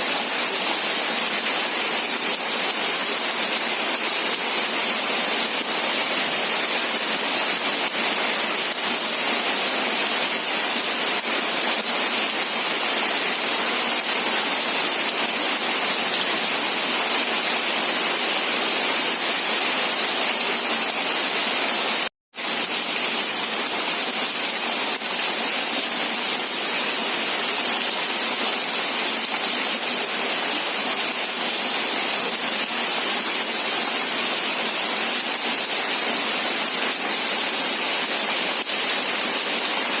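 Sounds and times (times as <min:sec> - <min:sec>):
steady rain hissing: 0:00.0 - 0:40.0.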